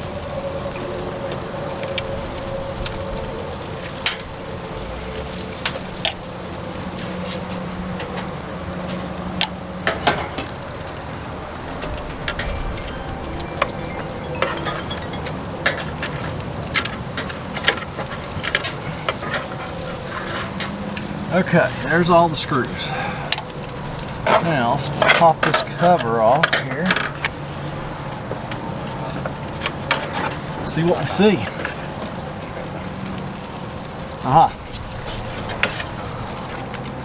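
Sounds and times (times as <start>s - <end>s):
background hum: 0.0s - 37.0s.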